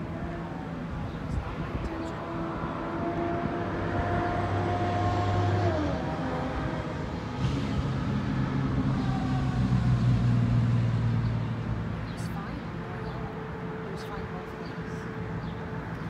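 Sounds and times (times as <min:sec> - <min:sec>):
second engine hum: 0:00.0 - 0:16.0
train diesel engine humming: 0:00.0 - 0:16.0.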